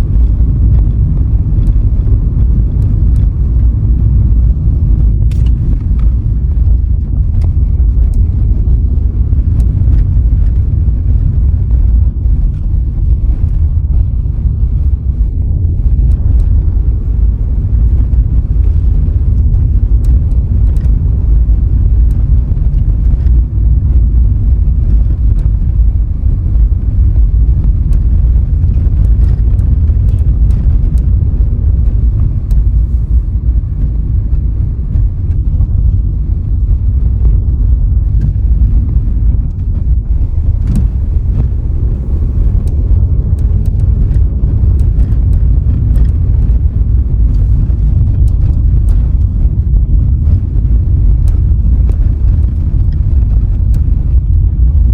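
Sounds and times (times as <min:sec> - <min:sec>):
car road noise rumble: 0:00.0 - 0:54.9.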